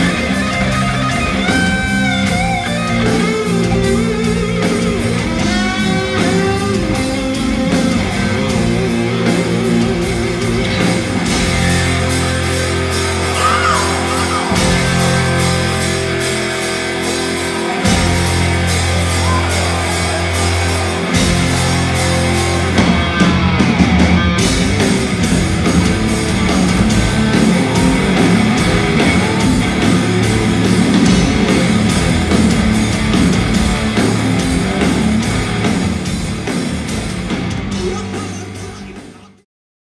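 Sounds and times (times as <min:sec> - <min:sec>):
electric guitar: 0:00.0 - 0:39.4
drums: 0:00.0 - 0:39.5.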